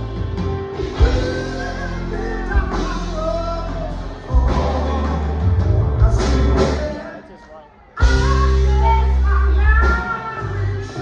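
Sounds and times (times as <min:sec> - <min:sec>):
rock band playing: 0:00.0 - 0:11.0
person singing: 0:00.9 - 0:11.0.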